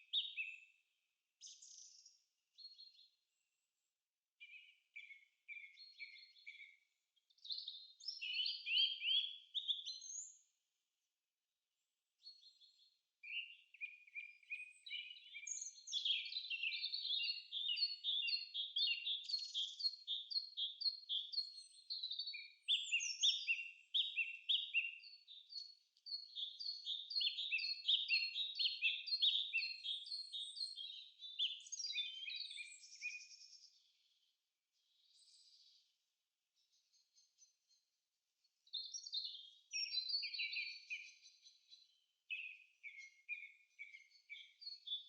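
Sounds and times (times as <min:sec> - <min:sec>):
songbird chirping: 0:00.0 - 0:10.6, 0:12.0 - 0:45.0.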